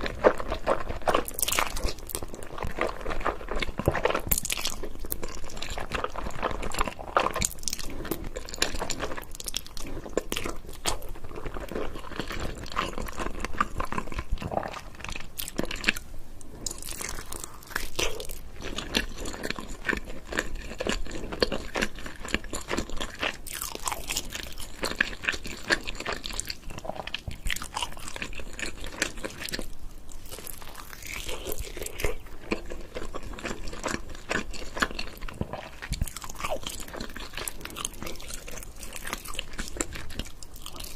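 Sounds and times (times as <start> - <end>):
person chewing and crunching food: 0.0 - 40.9.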